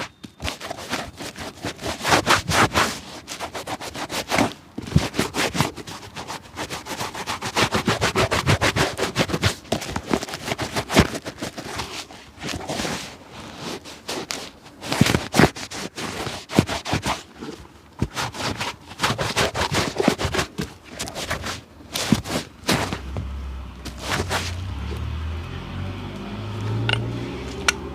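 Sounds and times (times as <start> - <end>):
scraping strokes on shoe: 0.0 - 23.3, 23.9 - 25.1.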